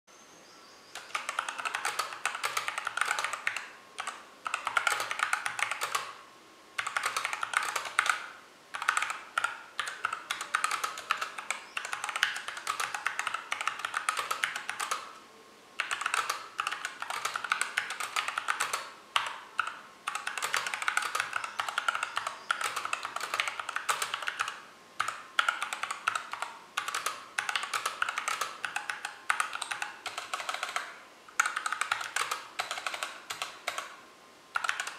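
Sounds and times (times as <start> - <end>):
mechanical keyboard typing: 1.0 - 6.2, 6.8 - 15.2, 15.8 - 34.9.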